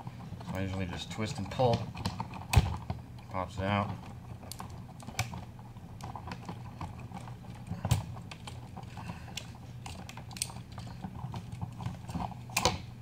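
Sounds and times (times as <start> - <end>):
wires clicking and handling noise: 0.0 - 13.0.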